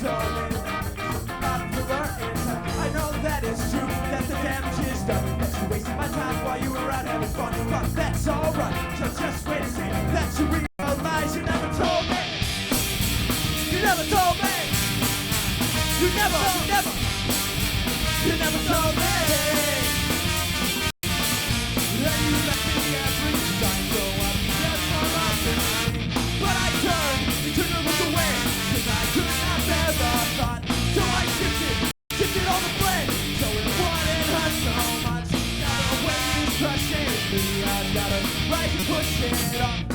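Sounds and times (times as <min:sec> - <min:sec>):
ska punk band playing loudly: 0:00.0 - 0:39.9.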